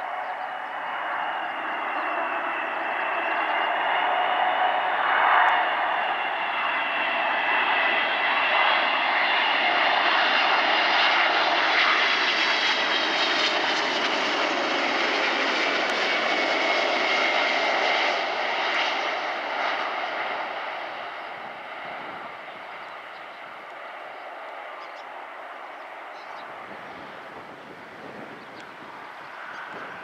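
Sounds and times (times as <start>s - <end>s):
jet engines rushing and whining: 0.0s - 30.0s.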